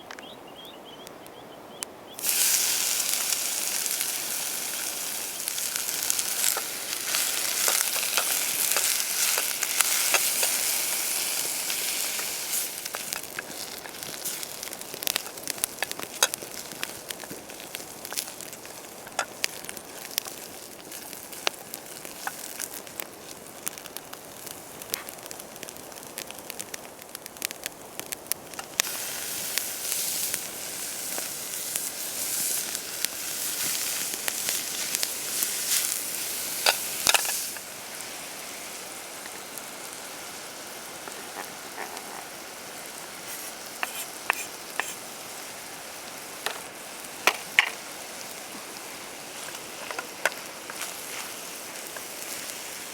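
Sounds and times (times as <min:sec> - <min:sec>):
campfire crackling and popping: 0:02.2 - 0:52.9
food sizzling in a pan: 0:02.2 - 0:52.9.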